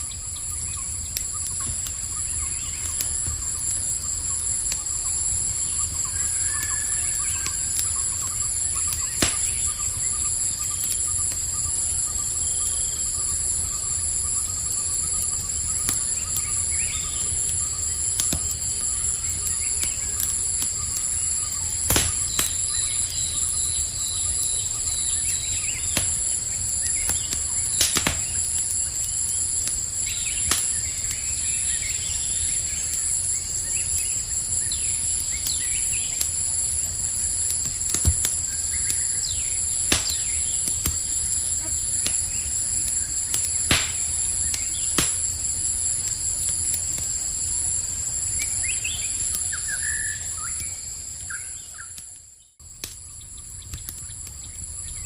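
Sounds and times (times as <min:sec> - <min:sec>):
campfire popping and crackling: 0:00.0 - 0:55.0
faint chirps: 0:00.0 - 0:55.0
insects trilling: 0:00.0 - 0:55.0.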